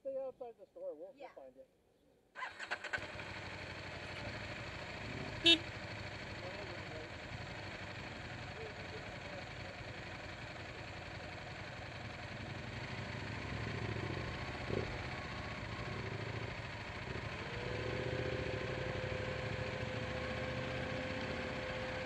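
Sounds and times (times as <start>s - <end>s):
motorcycle engine idling: 2.4s - 22.0s.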